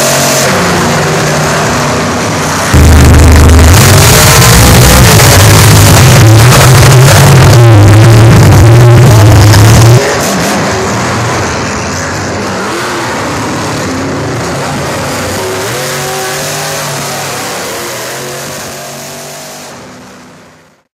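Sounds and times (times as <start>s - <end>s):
monster truck engine revving: 0.0s - 20.2s.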